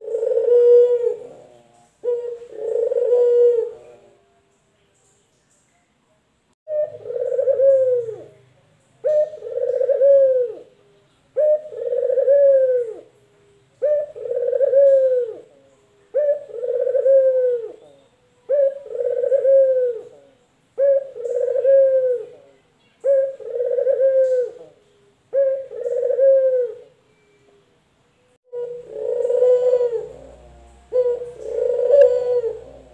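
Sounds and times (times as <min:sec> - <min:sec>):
dove cooing: 0:00.0 - 0:04.2, 0:06.7 - 0:08.4, 0:09.0 - 0:13.2, 0:13.8 - 0:27.0, 0:28.5 - 0:32.9.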